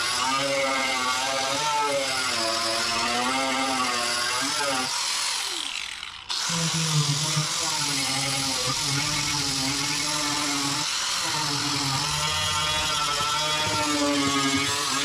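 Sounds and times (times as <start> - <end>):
power tool motor whirring: 0.0 - 15.0.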